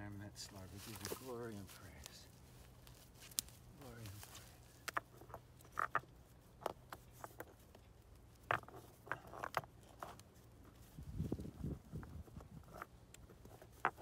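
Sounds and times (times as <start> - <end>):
small stones clicking and scraping: 0.4 - 14.0.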